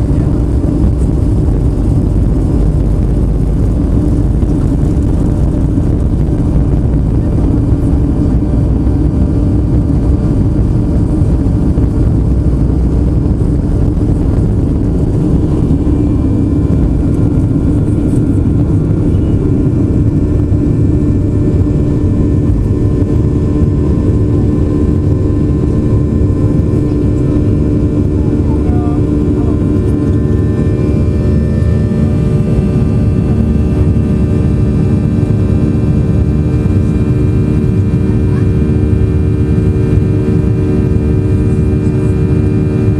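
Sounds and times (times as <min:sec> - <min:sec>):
jet engines rumbling: 0:00.0 - 0:42.9.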